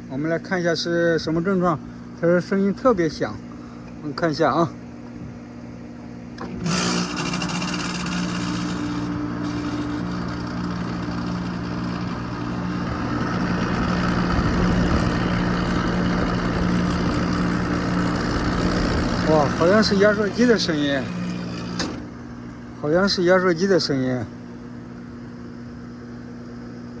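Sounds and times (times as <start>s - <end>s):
air conditioner unit humming: 0.0s - 27.0s.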